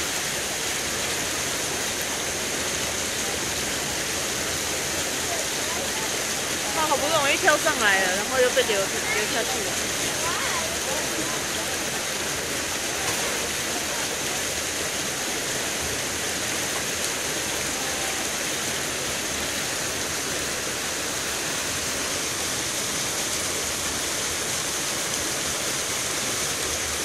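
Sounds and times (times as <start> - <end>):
water rushing over weirs: 0.0 - 27.0.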